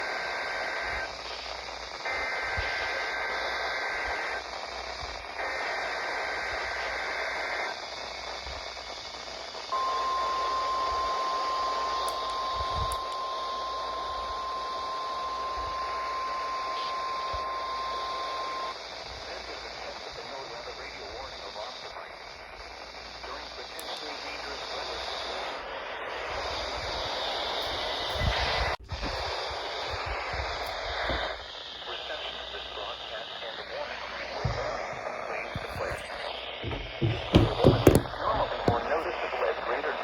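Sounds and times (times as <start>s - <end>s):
static hiss: 0.0s - 40.0s.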